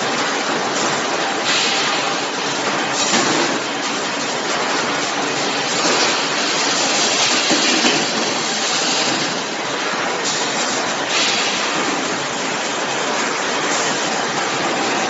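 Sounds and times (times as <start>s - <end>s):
industrial machinery clatter and hiss: 0.0s - 15.0s.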